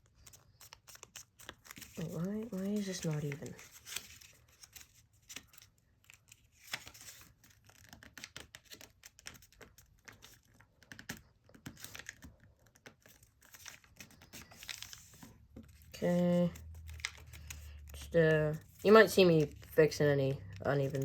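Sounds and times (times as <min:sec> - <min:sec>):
paper folds clicking: 0:00.0 - 0:19.7, 0:20.5 - 0:21.0
paper crinkling: 0:00.0 - 0:21.0.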